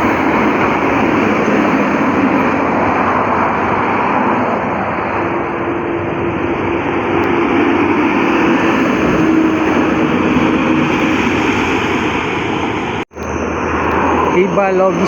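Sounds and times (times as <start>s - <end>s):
highway traffic tyre and wind noise: 0.0s - 15.0s.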